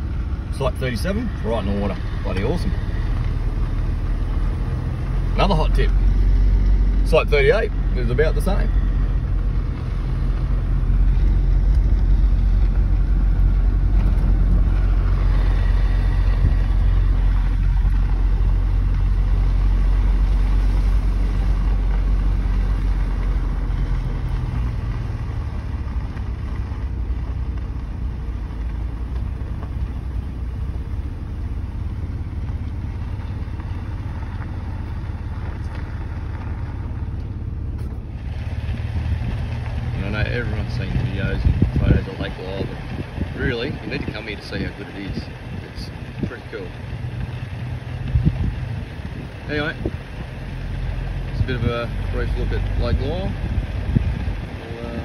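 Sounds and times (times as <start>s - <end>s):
vehicle rumble on dirt track: 0.0s - 55.0s.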